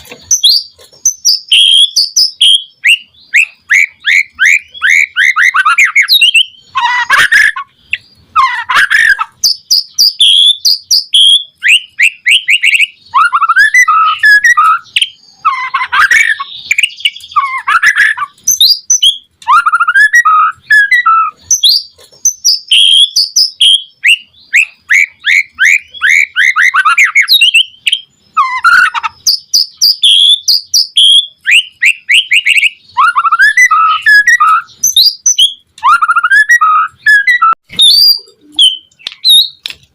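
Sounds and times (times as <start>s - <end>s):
songbird singing varied song: 0.0s - 39.7s.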